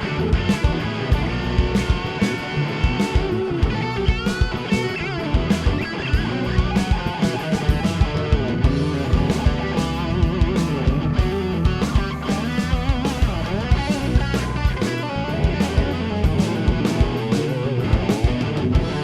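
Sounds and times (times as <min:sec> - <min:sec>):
electric guitar with bent notes: 0:00.0 - 0:19.0
steady drum beat: 0:00.0 - 0:19.0.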